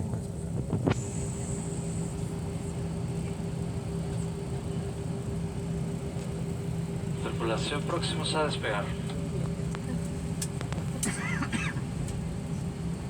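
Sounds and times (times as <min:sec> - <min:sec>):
faint high whine: 0:00.0 - 0:11.2
airliner cabin drone: 0:00.0 - 0:13.0.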